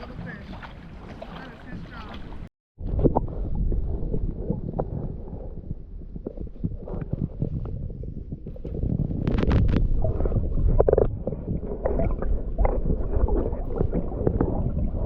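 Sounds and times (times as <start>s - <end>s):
rumbling water: 0.0s - 15.0s
wind noise on microphone: 0.0s - 15.0s.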